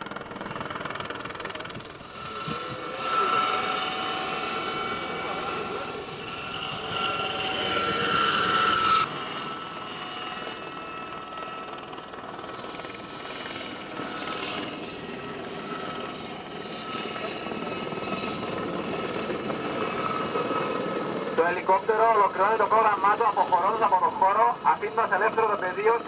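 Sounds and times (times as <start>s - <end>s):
helicopter turbine and rotor: 0.0s - 26.0s
high tail rotor whine: 0.0s - 26.0s.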